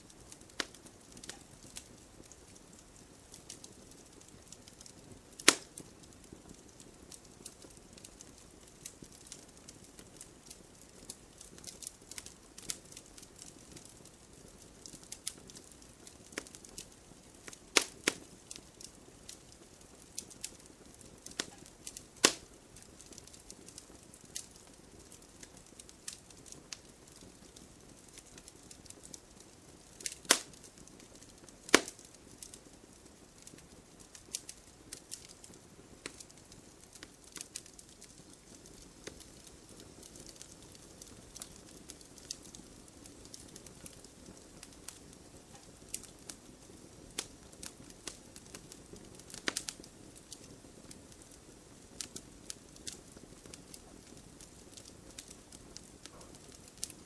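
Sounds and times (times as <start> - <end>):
campfire crackling and popping: 0.0 - 57.0
low hiss of burning: 0.0 - 57.0.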